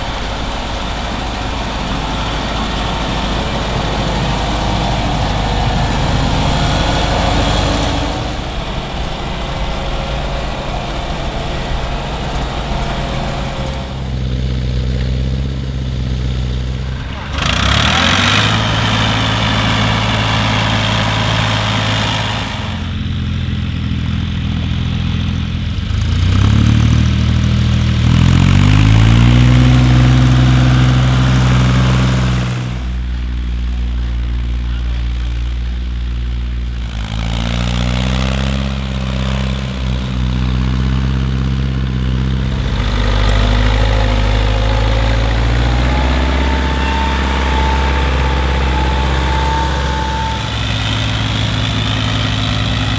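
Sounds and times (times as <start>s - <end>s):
heavy tractor engines revving: 0.0s - 52.9s.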